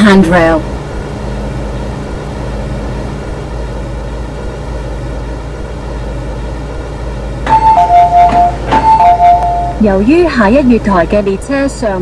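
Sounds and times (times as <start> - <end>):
faint steady tone: 0.0 - 11.5
electric train hum and hiss: 0.0 - 12.0.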